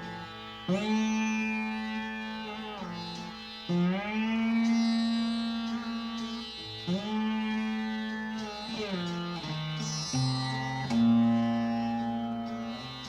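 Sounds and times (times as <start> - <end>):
plucked string notes sliding: 0.0 - 13.0.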